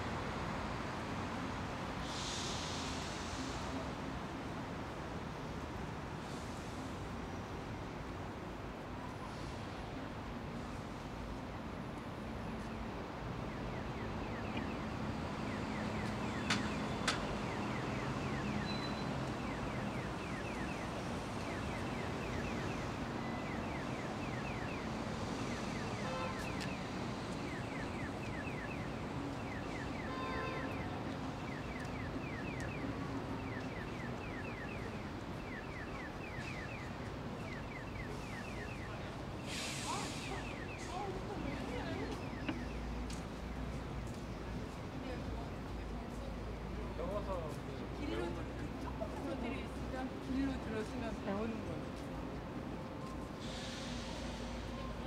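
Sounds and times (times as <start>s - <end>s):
city traffic hum: 0.0s - 55.0s.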